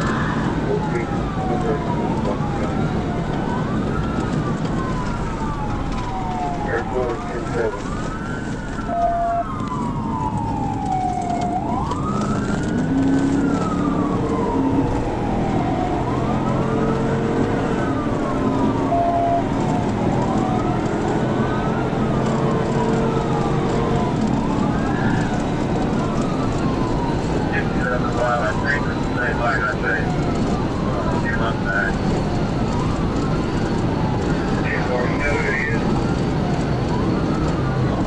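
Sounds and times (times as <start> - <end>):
police siren wailing: 0.0 - 38.0
road noise: 0.0 - 38.0.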